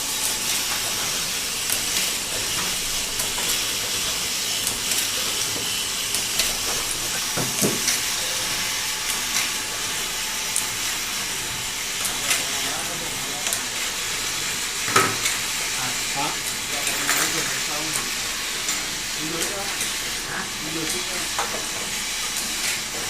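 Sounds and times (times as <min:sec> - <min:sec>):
bottle filling machine hissing: 0:00.0 - 0:23.0.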